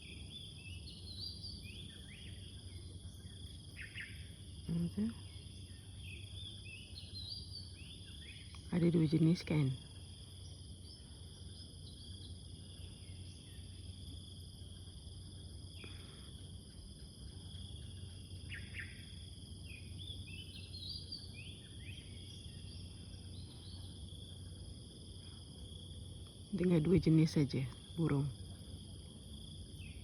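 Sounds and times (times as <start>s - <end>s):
small birds chirping: 0.0s - 14.3s, 15.0s - 28.6s.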